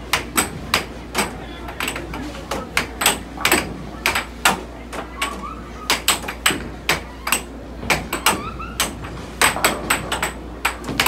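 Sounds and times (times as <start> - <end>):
air hockey puck clacking: 0.0 - 11.0.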